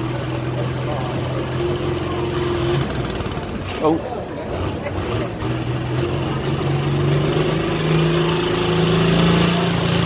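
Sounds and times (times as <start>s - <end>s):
tractor engine running loud: 0.0s - 10.0s.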